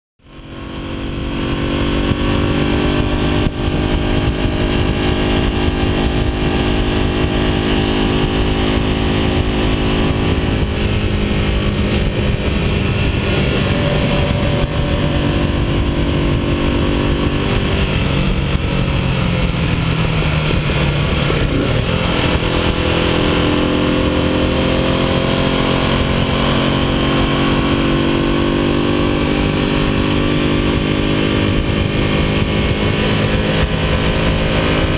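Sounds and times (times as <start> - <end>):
motorcycle engine running: 0.2 - 34.9
wind rushing: 0.5 - 34.9.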